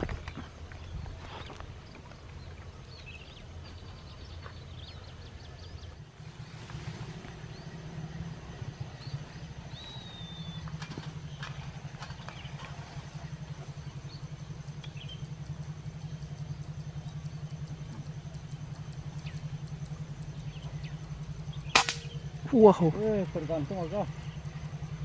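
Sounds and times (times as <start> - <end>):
small birds chirping: 0.0 - 25.0
small engine puttering: 0.0 - 25.0.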